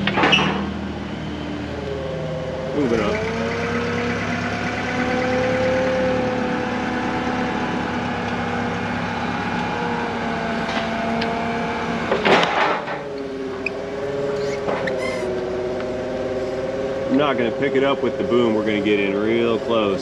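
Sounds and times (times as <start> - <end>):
forklift engine running: 0.0 - 20.0
hydraulic whine: 0.0 - 20.0.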